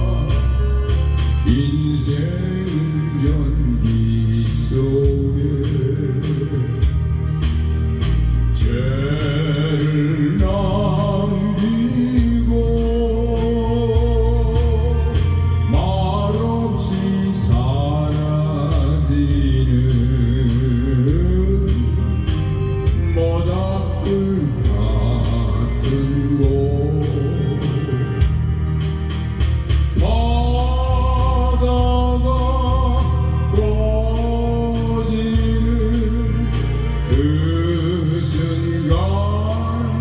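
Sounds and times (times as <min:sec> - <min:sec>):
person singing: 0:00.0 - 0:07.1, 0:08.5 - 0:28.5, 0:29.8 - 0:40.0
backing track with bass and beat: 0:00.0 - 0:40.0.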